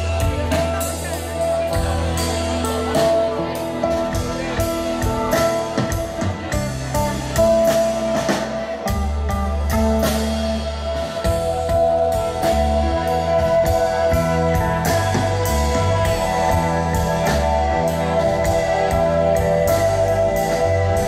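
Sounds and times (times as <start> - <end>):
bass guitar notes: 0.0 - 21.0
drum kit with cymbal hits: 0.0 - 21.0
electric guitar long notes: 0.0 - 21.0.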